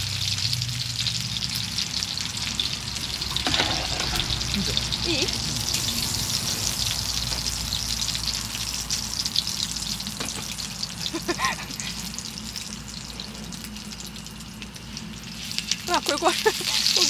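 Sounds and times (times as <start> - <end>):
pork sizzling in a pan: 0.0 - 17.0.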